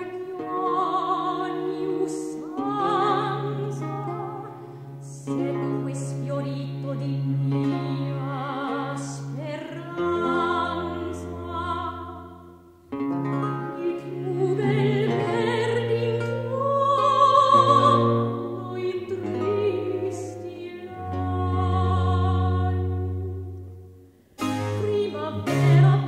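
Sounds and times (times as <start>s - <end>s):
soprano singing with vibrato: 0.0s - 12.6s, 13.3s - 23.6s, 24.4s - 26.0s
plucked chords: 0.0s - 26.0s.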